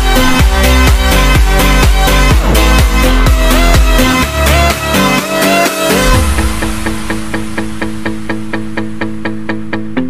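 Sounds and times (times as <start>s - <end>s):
loud dance music: 0.0s - 8.2s.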